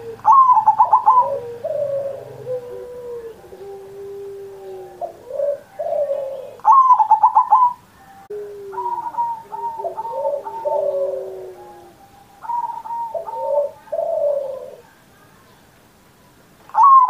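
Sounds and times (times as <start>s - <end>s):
dove rapid notes: 0.0s - 14.8s
dove cooing: 0.0s - 15.0s, 16.7s - 17.0s.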